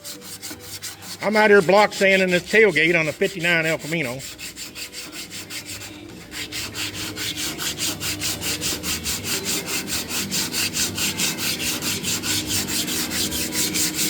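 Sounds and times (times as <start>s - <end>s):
sanding block rasping on metal: 0.0s - 14.0s.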